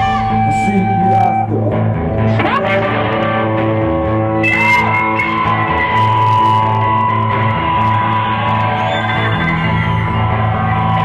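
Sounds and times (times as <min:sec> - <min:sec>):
guitar held notes: 0:00.0 - 0:11.0
pulsing bass line: 0:00.0 - 0:11.0
rock band playing: 0:00.0 - 0:11.0.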